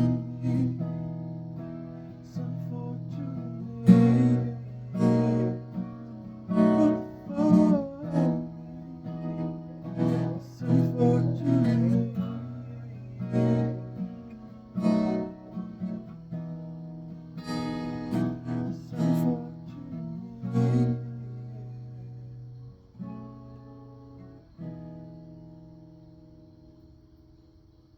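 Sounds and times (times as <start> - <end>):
acoustic guitar strumming chords: 0.0 - 26.4.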